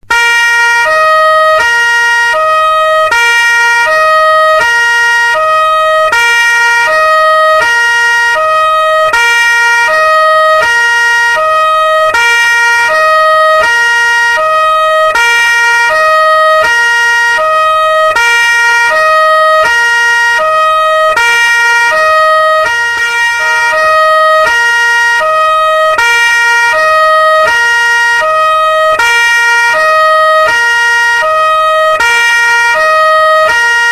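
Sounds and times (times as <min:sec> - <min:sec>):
two-tone police siren: 0:00.0 - 0:33.9.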